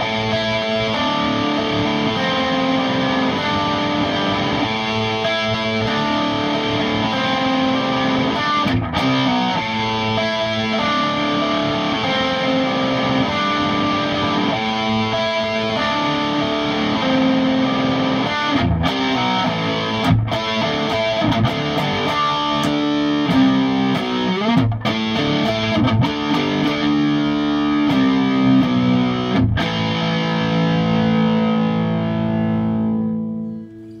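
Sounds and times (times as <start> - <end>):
electric guitar riffs through amplifier: 0.0 - 34.0.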